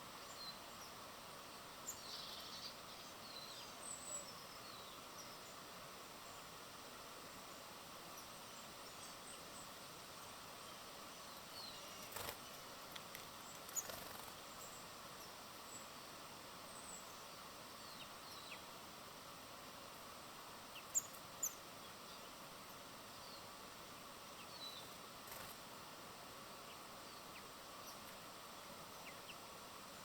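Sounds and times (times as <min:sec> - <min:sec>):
small birds chirping: 0:00.0 - 0:18.8, 0:19.8 - 0:25.7, 0:26.4 - 0:30.0
steady outdoor hiss: 0:00.0 - 0:30.0.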